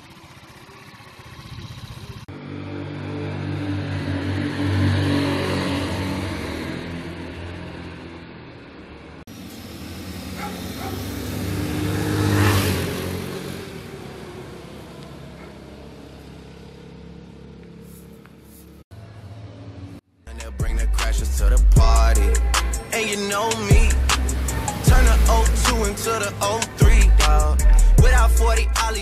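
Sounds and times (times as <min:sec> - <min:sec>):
motor scooters riding past: 0:00.0 - 0:20.0, 0:22.2 - 0:29.0.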